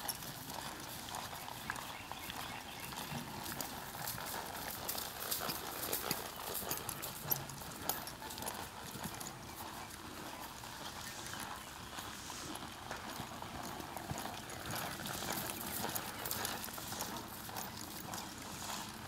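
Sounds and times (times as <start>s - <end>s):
horse hoofbeats on dirt: 0.0s - 19.0s.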